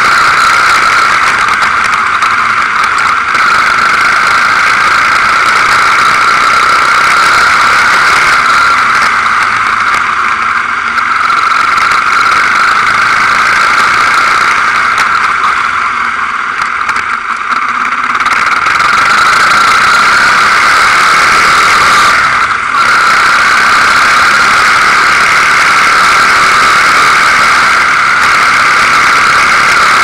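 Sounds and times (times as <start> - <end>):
quad bike engine running: 0.0 - 30.0.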